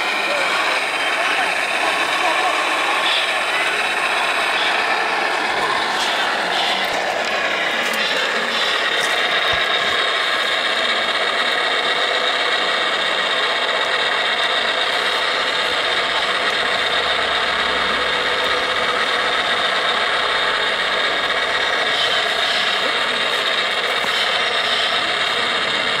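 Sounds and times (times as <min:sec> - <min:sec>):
electric motors whirring: 0:00.0 - 0:26.0.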